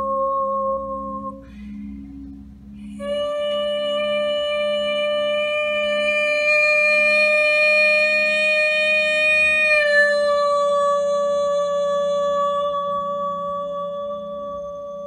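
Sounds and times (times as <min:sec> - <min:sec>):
high pure tone: 0:00.0 - 0:15.0
low pulsing drone: 0:00.0 - 0:15.0.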